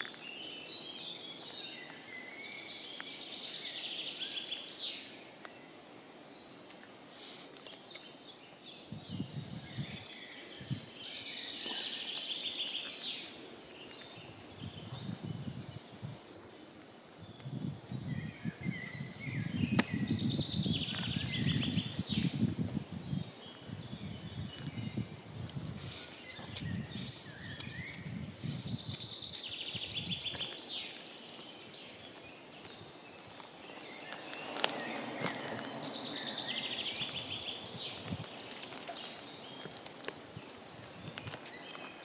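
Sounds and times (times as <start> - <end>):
songbirds trilling: 0.0 - 42.0.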